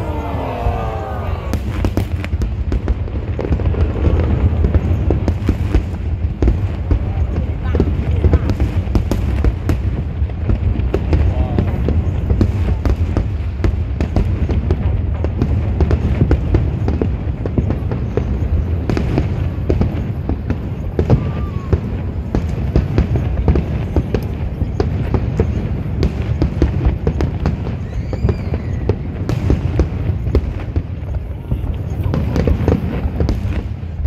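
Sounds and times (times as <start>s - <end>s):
fireworks booming and cracking: 0.0s - 34.0s.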